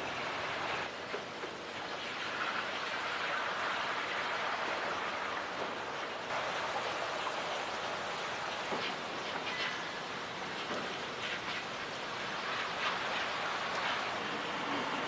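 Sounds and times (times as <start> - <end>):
roller conveyor hissing: 0.0 - 15.0.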